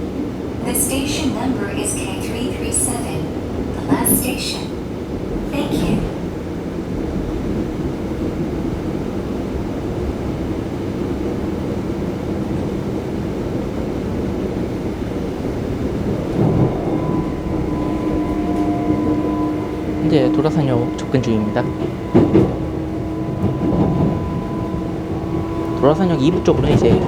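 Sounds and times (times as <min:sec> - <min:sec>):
multi-tone train whine: 0:00.0 - 0:27.0
train rumbling on rails: 0:00.0 - 0:27.0.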